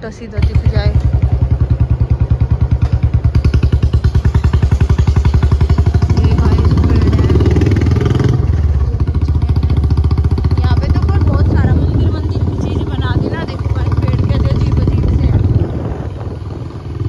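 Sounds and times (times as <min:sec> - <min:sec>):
motorcycle engine thumping: 0:00.3 - 0:17.0.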